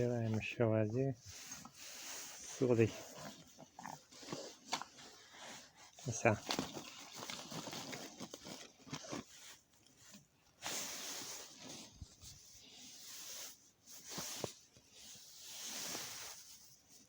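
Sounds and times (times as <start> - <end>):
hissing rustling noise: 0.0 - 8.4, 9.3 - 17.0.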